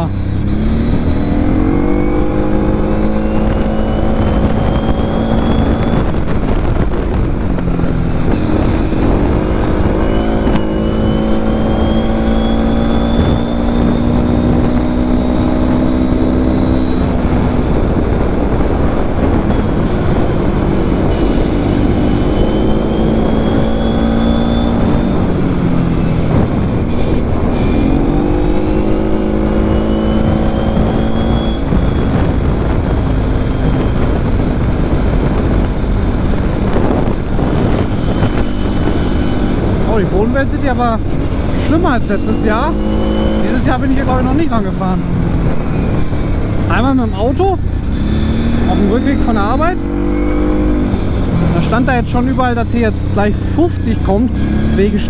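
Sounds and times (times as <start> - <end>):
quad bike engine accelerating: 0.0 - 55.0
wind rushing over microphone: 0.0 - 55.0.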